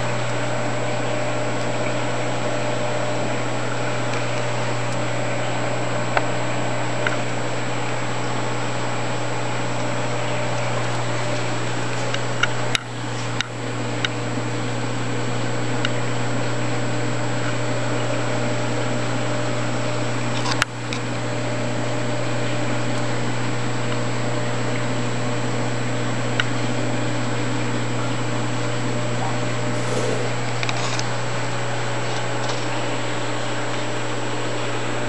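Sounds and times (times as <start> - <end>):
aquarium pumps humming: 0.0 - 35.0.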